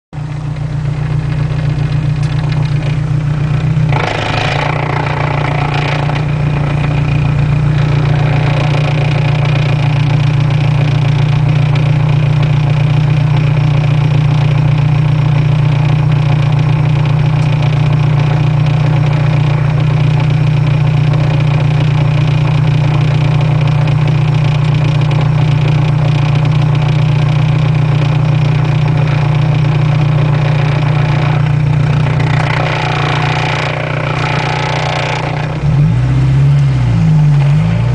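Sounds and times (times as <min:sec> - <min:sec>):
car interior engine drone: 0:00.2 - 0:37.9.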